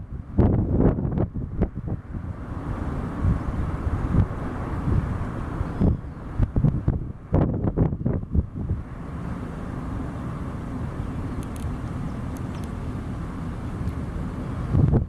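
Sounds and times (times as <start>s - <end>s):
low outdoor rumble: 0.0s - 15.0s
wind buffeting microphone: 0.0s - 15.0s.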